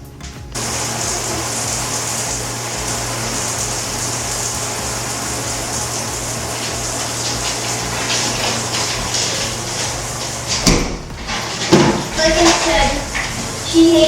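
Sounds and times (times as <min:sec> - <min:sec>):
shower water spray hissing: 0:00.0 - 0:14.0.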